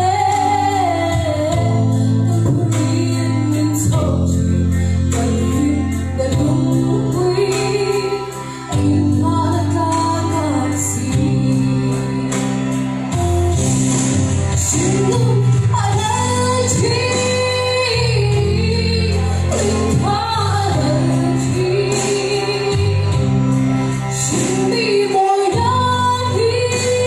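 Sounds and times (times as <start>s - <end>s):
backing track sustained chords: 0.0s - 27.0s.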